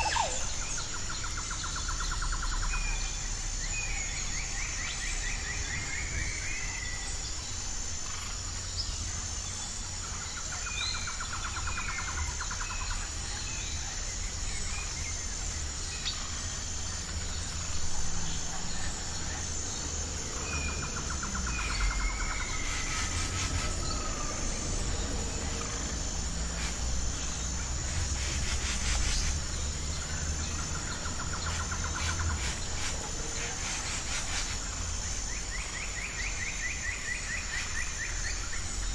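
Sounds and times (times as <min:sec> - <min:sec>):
high-pitched insect trill: 0:00.0 - 0:38.9
songbirds chirping and trilling: 0:00.0 - 0:38.9.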